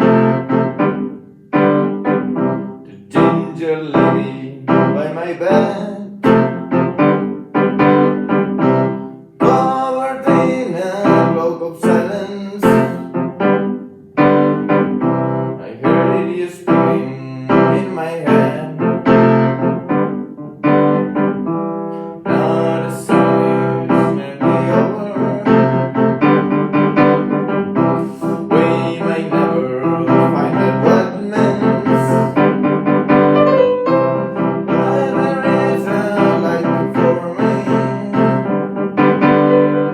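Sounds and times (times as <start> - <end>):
instrumental piano music: 0.0 - 39.9.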